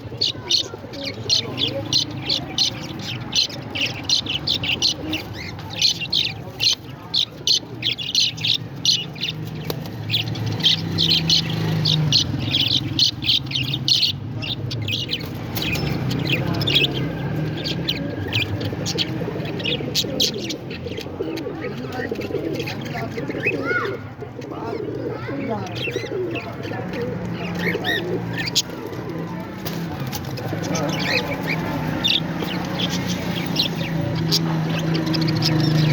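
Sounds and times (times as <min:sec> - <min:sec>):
parrots chirping: 0:00.0 - 0:23.8, 0:25.1 - 0:35.9.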